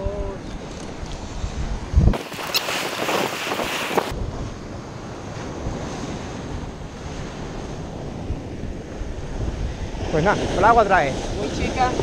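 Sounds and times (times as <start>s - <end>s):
wind buffeting microphone: 0.0s - 12.0s
surf washing against rocks: 0.6s - 12.0s.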